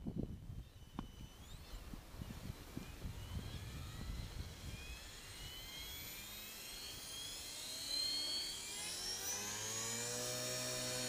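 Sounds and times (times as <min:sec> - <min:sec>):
electric motor whine rising: 0:00.0 - 0:11.0
rotor blades whirring: 0:00.0 - 0:11.0.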